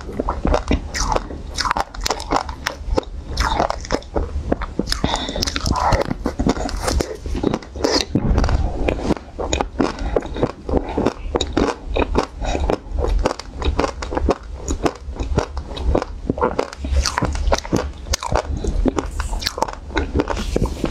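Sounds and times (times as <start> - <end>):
person chewing ice cream: 0.0 - 20.9.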